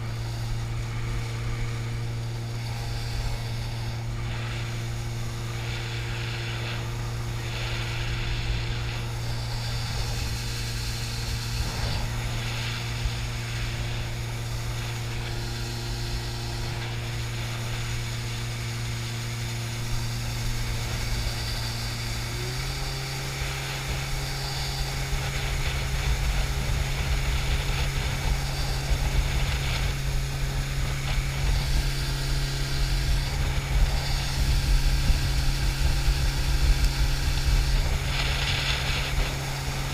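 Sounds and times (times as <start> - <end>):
jet boat engine drone: 0.0 - 39.9.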